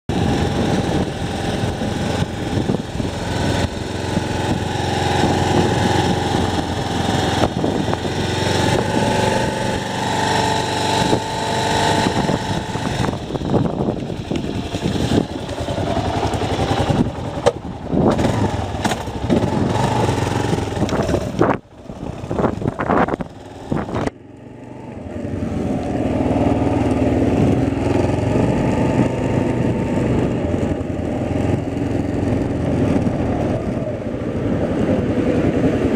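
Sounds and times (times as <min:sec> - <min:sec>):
engine running: 0:00.1 - 0:35.9.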